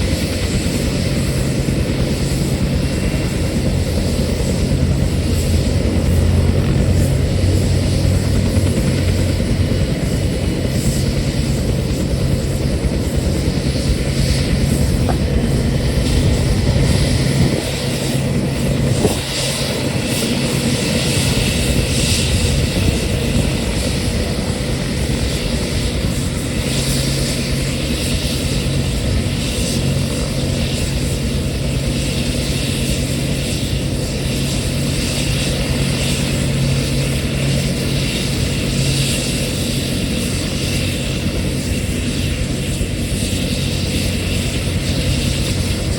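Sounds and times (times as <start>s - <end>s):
helicopter rotor and engine: 0.0s - 45.9s.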